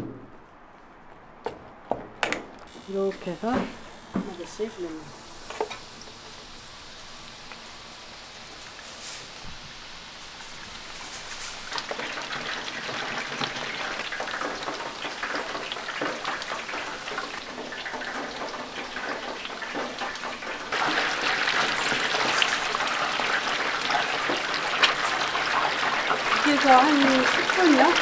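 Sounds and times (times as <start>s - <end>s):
deep-frying sizzle with crackles: 2.7s - 28.0s.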